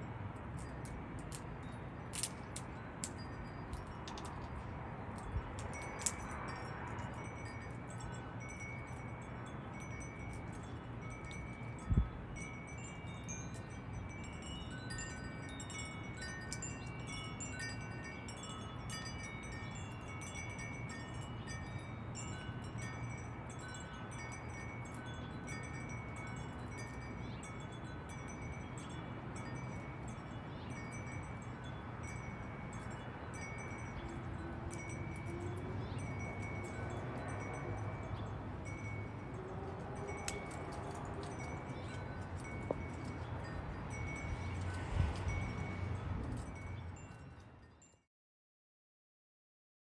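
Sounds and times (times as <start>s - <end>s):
wind chimes ringing: 0.0s - 48.1s.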